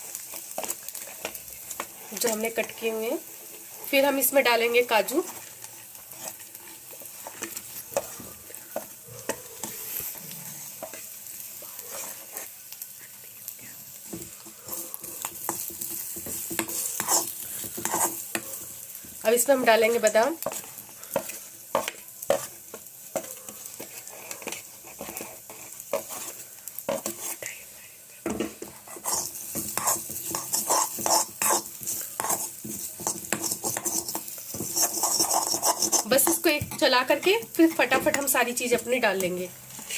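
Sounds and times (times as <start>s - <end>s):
light sizzle in hot fat: 0.0s - 39.9s
spoon scraping against pan: 0.1s - 12.6s, 13.9s - 27.6s, 28.3s - 38.9s.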